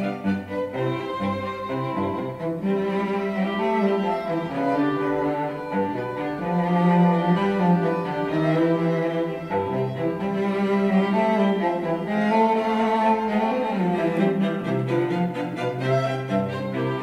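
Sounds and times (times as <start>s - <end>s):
cello and violins playing slow notes: 0.0s - 17.0s.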